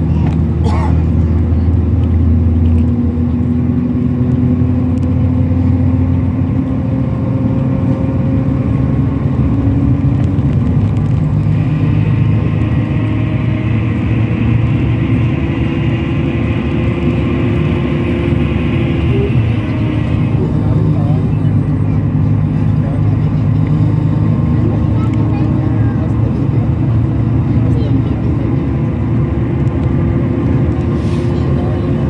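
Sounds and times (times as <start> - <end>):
coach engine and road drone: 0.0 - 32.0.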